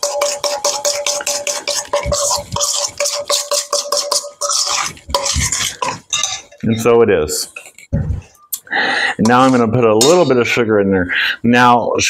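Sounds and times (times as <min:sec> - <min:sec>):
spoon scraping metal bowl: 0:00.0 - 0:08.5, 0:09.2 - 0:10.6.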